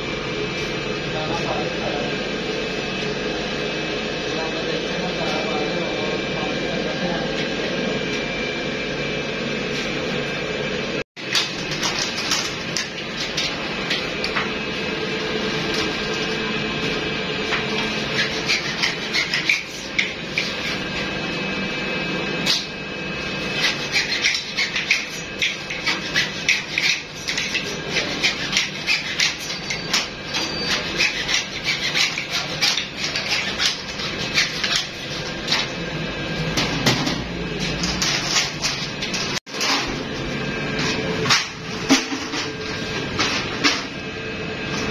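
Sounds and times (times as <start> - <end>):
factory machine hum: 0.0 - 23.9, 32.4 - 44.9.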